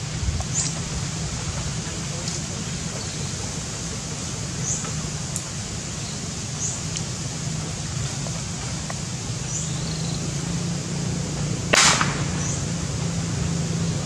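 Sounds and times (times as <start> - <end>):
sharp burst of noise: 0.0 - 14.0
steady low hum: 0.0 - 14.0.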